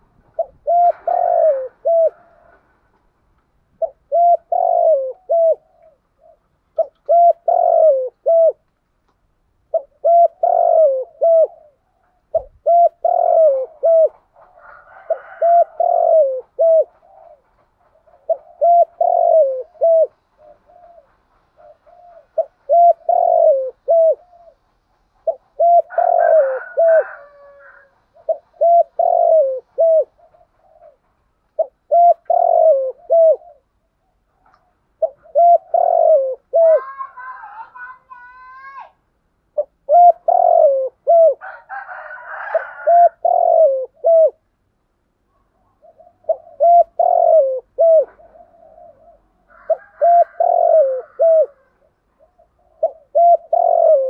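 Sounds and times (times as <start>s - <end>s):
dove cooing: 0.0s - 3.0s, 3.7s - 8.7s, 9.7s - 38.8s, 39.5s - 44.5s, 45.3s - 54.0s.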